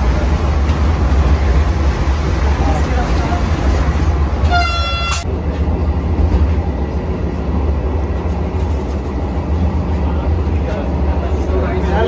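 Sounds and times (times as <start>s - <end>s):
electric train running at speed: 0.0s - 12.0s.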